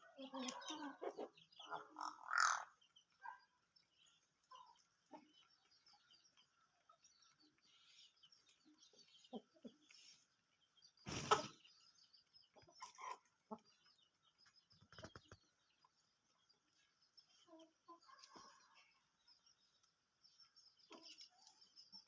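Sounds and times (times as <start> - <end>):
chickens clucking and peeping: 0.0 - 22.0.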